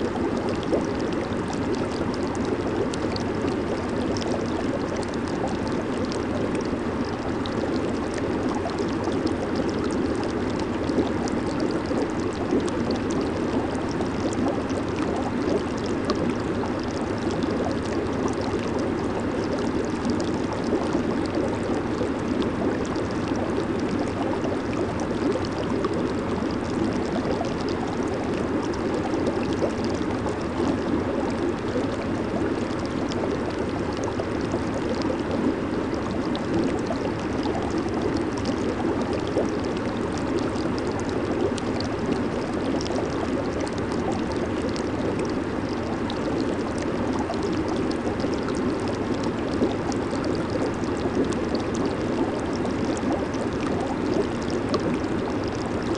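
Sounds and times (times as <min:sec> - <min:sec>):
hot tub water bubbling: 0:00.0 - 0:55.9.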